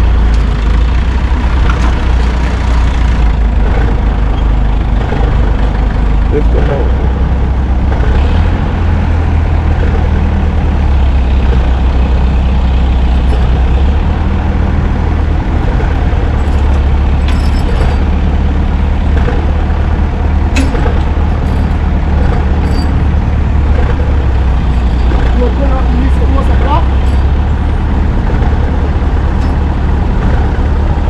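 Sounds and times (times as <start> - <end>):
diesel truck engine rumbling: 0.0 - 31.0.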